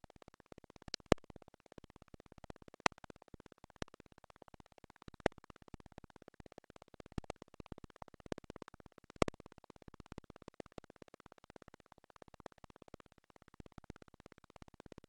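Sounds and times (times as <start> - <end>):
rapid faint clicks: 0.0 - 15.0.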